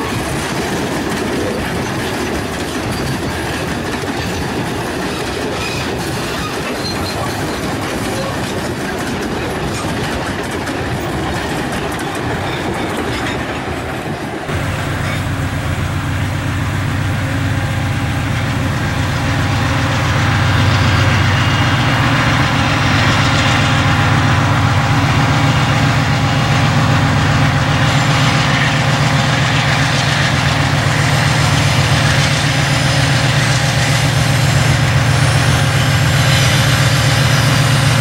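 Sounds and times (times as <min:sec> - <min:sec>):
locomotive engines droning: 0:00.0 - 0:38.0.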